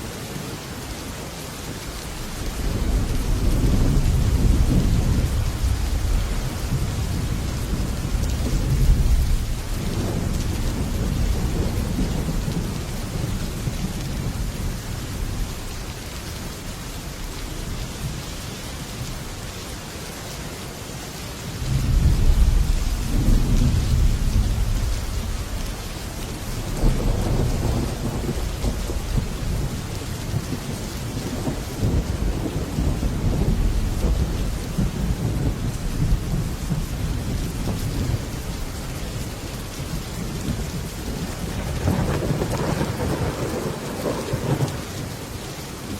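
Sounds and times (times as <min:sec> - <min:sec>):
heavy rain on a metal roof: 0:00.0 - 0:45.9
thunder rumbling: 0:02.2 - 0:18.2, 0:21.6 - 0:45.9.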